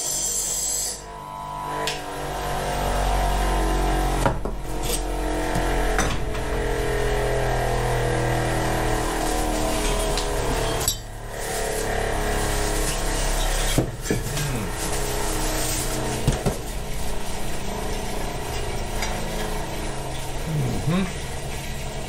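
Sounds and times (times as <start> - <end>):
steady hum with shifting tones: 0.0 - 22.0.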